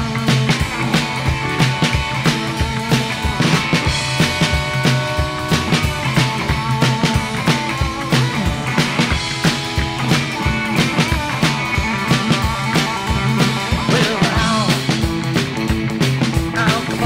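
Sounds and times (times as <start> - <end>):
drums beat: 0.0 - 17.0
electric guitar: 0.0 - 17.0
upright bass: 0.0 - 17.0.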